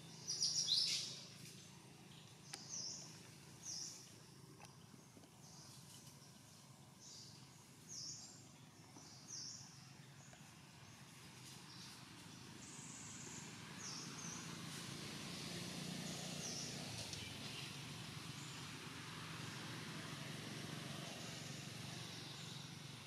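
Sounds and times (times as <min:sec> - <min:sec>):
steady forest hiss: 0:00.0 - 0:23.0.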